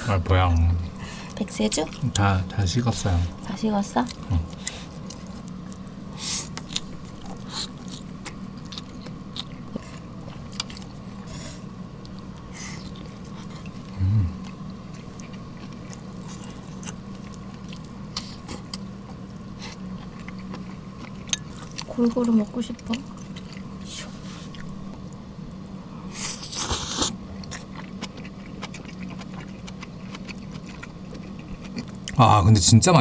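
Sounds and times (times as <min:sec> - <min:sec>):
steady low hum: 0:00.0 - 0:33.0
chewing and eating: 0:00.5 - 0:32.2.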